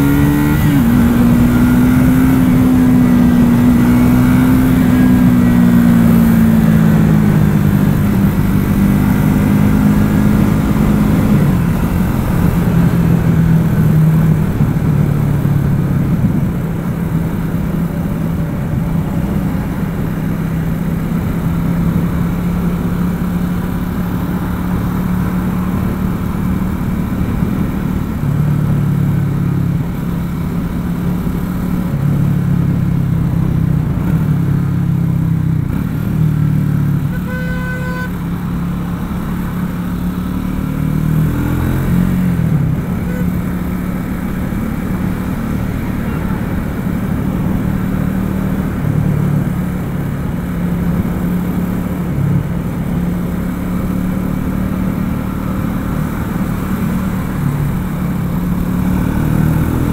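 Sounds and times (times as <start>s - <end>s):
motorcycle engine cruising: 0.0s - 59.9s
wind and road rush: 0.0s - 59.9s.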